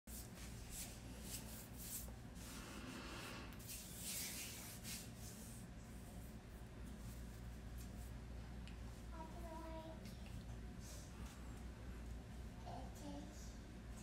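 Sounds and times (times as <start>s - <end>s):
low steady hum: 0.1s - 14.0s.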